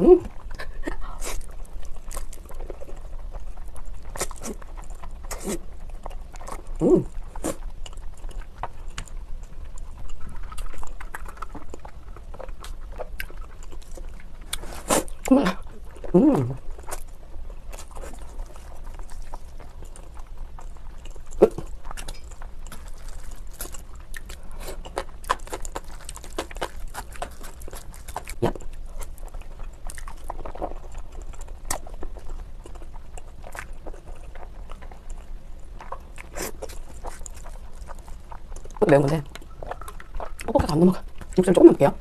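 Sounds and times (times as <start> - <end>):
chewing and slurping noodles: 0.3 - 42.0.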